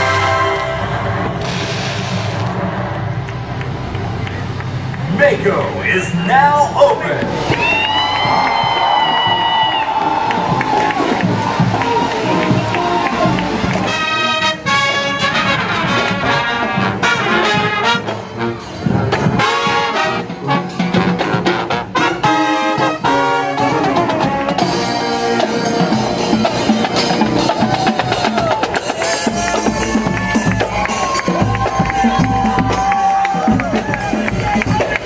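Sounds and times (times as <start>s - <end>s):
brass music: 0.0s - 7.6s, 8.4s - 35.0s.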